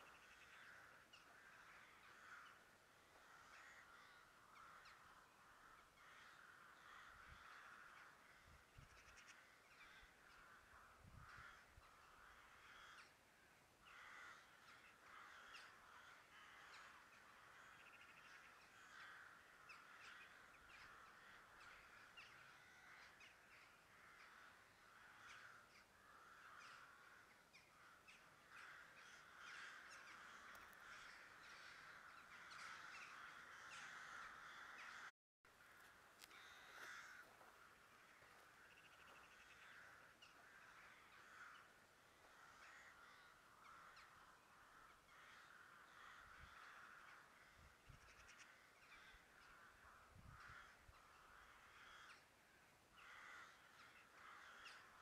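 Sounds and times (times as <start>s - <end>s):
faint bird calls: 0.0s - 55.0s.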